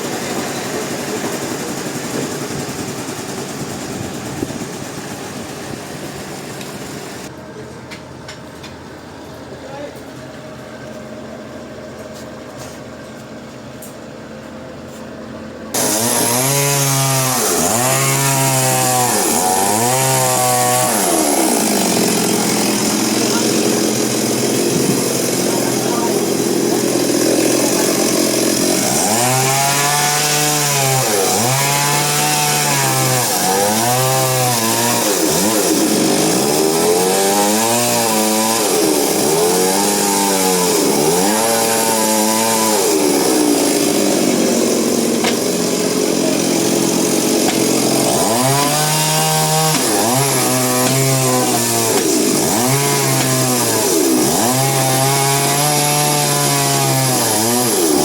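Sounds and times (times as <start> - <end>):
chainsaw cutting wood: 0.0 - 7.3, 15.7 - 58.0.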